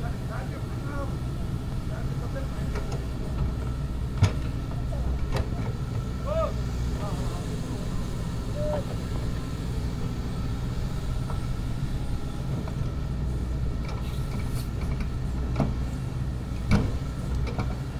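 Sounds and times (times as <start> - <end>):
excavator diesel engine running: 0.0 - 17.9.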